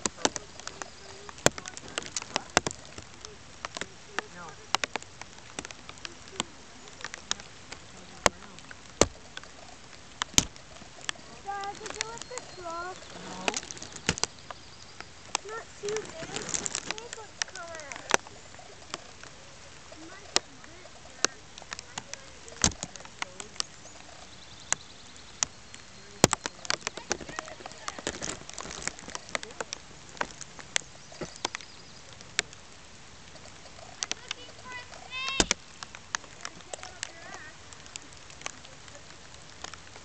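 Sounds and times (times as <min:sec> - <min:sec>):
light rain hissing: 0:00.0 - 0:40.0
raindrops tapping: 0:00.0 - 0:40.0.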